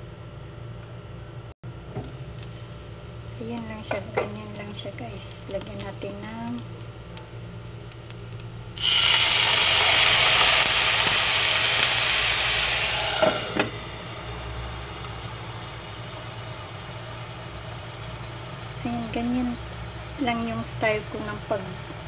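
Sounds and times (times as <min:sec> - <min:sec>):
low hum: 0:00.0 - 0:22.0
water sizzling in a hot pan: 0:02.1 - 0:22.0.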